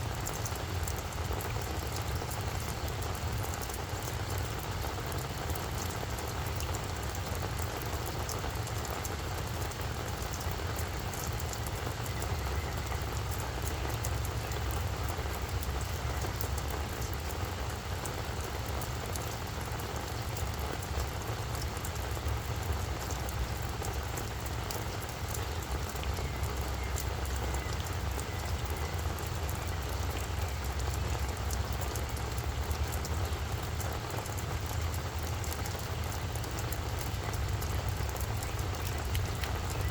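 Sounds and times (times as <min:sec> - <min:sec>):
rain hissing on flower bed: 0:00.0 - 0:39.9
raindrop ticks: 0:00.0 - 0:39.9.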